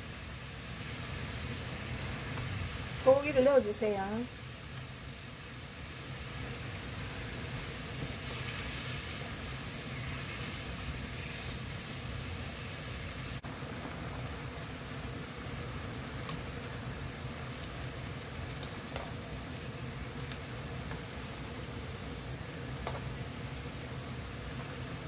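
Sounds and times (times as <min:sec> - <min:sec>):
sauce bubbling and sizzling: 0:00.0 - 0:25.0.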